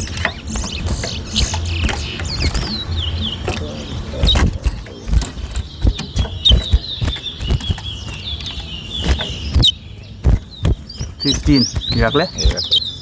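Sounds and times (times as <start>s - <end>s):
sharp knocks and clicks: 0.0s - 12.8s
finch warbling song: 0.0s - 13.0s.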